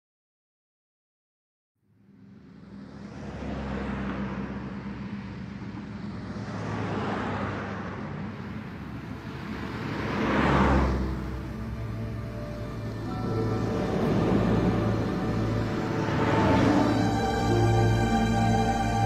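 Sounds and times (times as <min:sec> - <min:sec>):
vehicles passing: 0:01.8 - 0:19.0.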